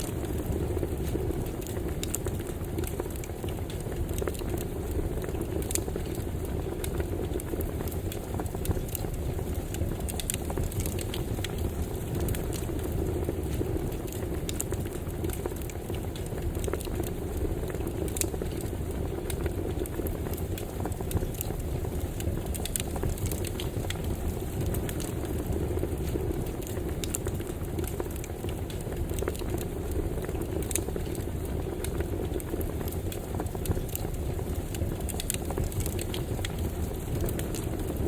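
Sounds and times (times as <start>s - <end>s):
campfire flames rushing: 0.0s - 38.0s
wood crackling and popping: 0.0s - 38.0s.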